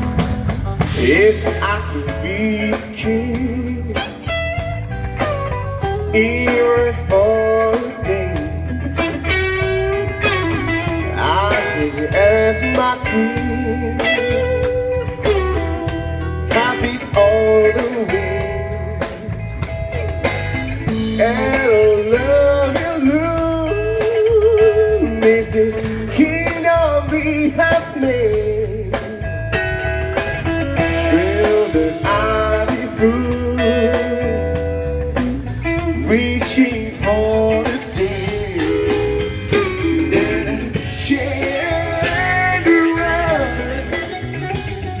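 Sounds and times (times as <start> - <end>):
blues band music: 0.0 - 45.0.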